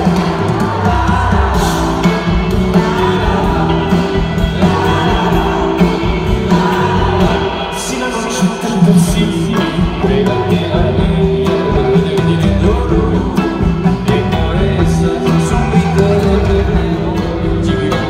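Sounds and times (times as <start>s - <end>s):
drums: 0.0s - 18.0s
electric guitars: 0.0s - 18.0s
person singing: 0.0s - 18.0s.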